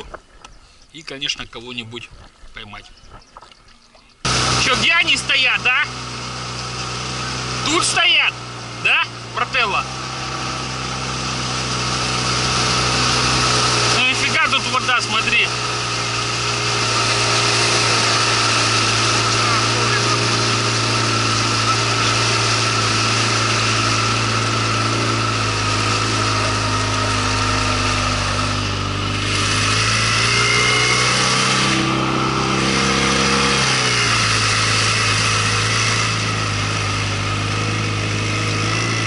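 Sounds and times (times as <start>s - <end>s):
outboard motor running: 2.1s - 39.0s.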